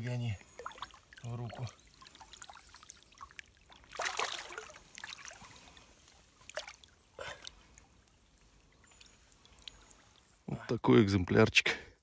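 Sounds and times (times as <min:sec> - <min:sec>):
water splashing: 0:00.0 - 0:10.4
stream trickling: 0:00.0 - 0:11.3.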